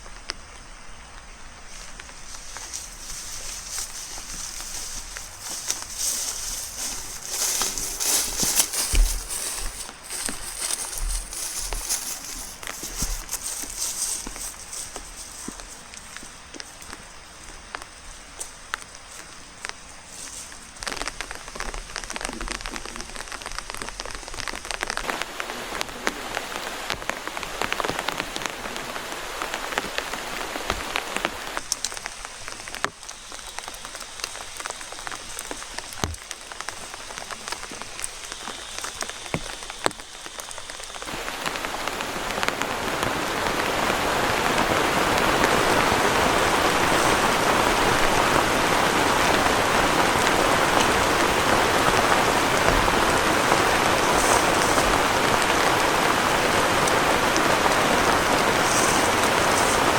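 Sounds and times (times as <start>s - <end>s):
rain hiss: 0.0s - 59.9s
raindrops striking close by: 0.0s - 59.9s.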